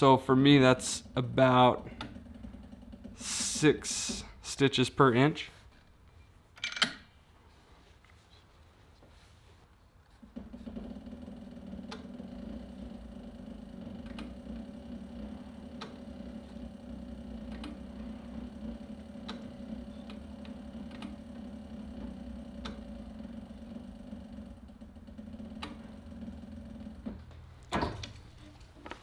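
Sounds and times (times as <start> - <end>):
sewing machine motor humming: 0.0 - 4.6, 10.2 - 29.0.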